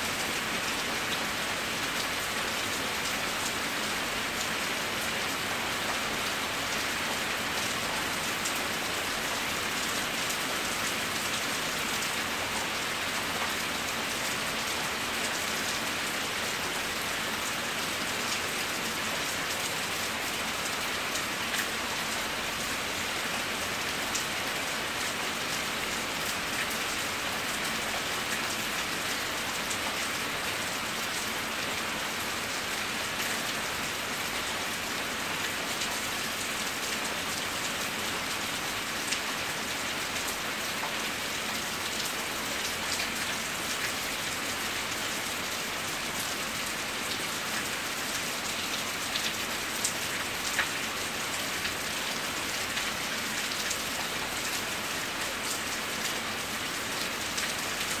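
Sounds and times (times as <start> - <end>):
rain on wet pavement: 0.0 - 58.0.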